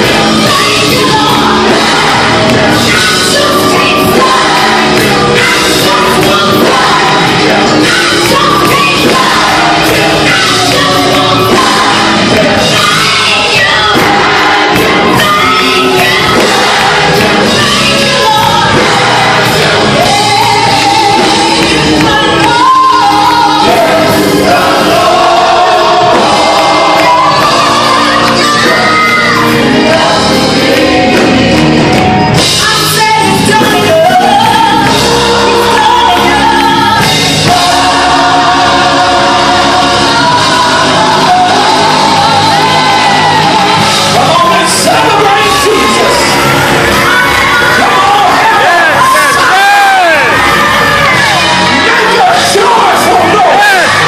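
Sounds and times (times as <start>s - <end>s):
worship song with instruments: 0.0s - 54.0s.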